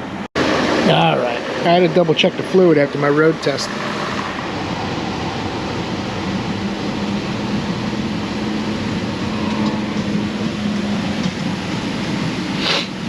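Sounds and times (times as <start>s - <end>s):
broad rushing noise: 0.0s - 13.0s
car engine idling: 0.0s - 13.0s.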